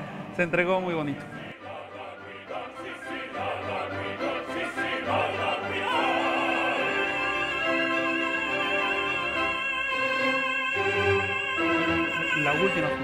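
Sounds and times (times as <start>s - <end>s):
orchestra playing: 0.0s - 13.0s
operatic tenor singing: 1.1s - 13.0s.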